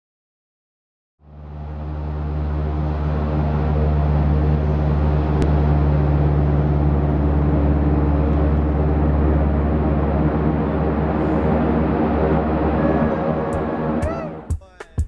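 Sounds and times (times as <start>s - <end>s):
propeller engine drone: 1.2s - 14.6s.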